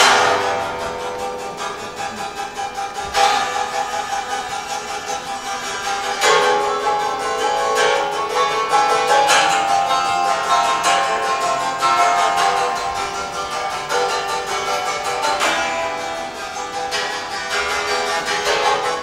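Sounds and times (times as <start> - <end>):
struck and plucked string instruments: 0.0 - 19.0.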